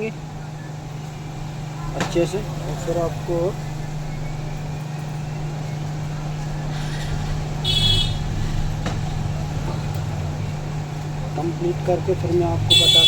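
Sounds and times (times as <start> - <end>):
hot-air station blowing: 0.0 - 13.0.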